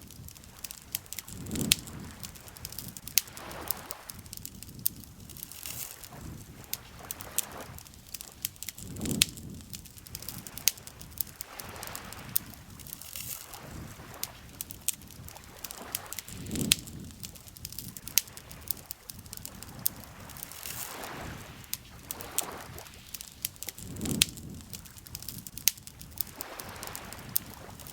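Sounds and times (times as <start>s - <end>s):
campfire crackling: 0.0s - 27.9s
lake water lapping: 0.3s - 4.4s, 5.3s - 25.2s, 26.1s - 27.9s.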